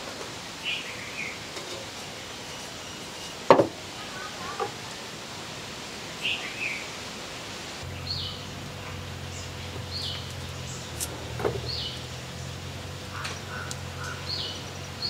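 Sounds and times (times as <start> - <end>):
steady outdoor hiss: 0.0 - 15.0
bird calling: 0.6 - 4.8, 6.1 - 15.0.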